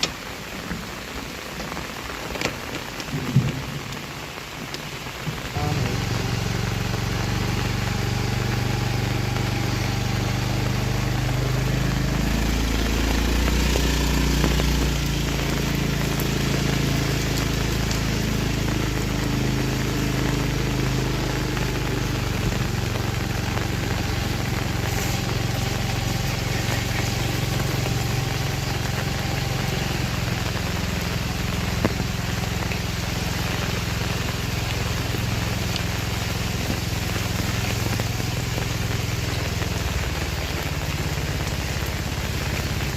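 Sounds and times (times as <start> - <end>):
rain hiss: 0.0 - 42.9
vehicle engine idling: 5.1 - 42.9.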